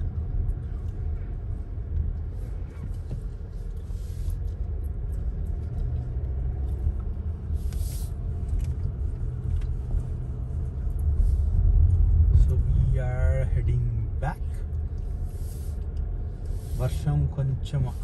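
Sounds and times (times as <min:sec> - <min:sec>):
car cabin engine and tyre rumble: 0:00.0 - 0:18.0.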